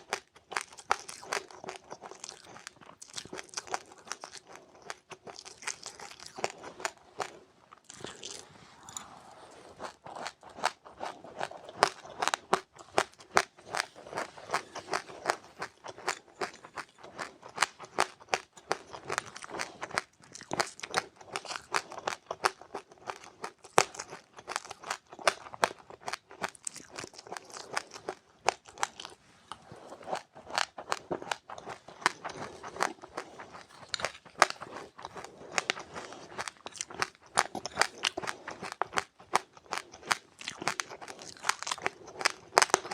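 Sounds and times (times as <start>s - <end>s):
chewing crunchy seeds: 0.0s - 42.9s.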